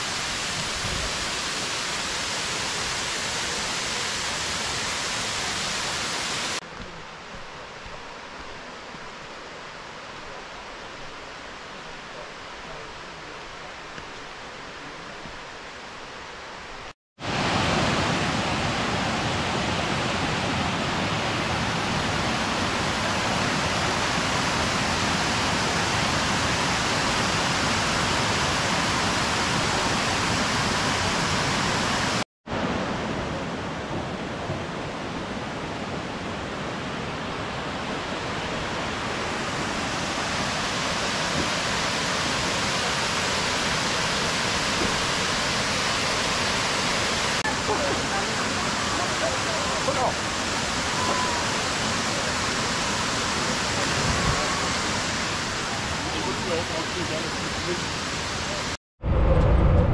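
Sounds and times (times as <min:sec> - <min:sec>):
waterfall rushing over rocks: 0:00.0 - 0:58.8.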